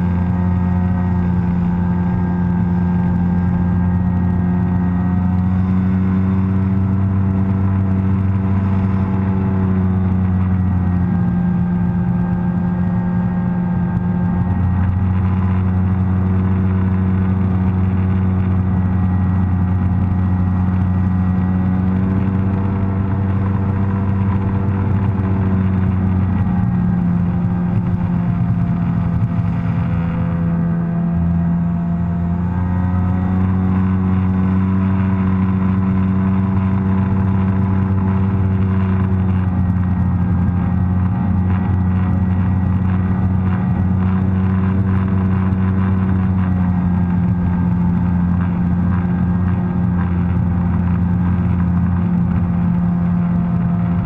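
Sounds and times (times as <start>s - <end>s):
watercraft engine drone: 0.0s - 54.0s.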